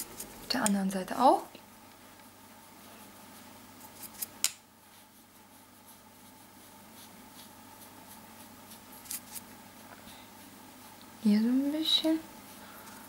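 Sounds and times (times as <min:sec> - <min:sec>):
brush strokes on skin: 0:02.3 - 0:13.0.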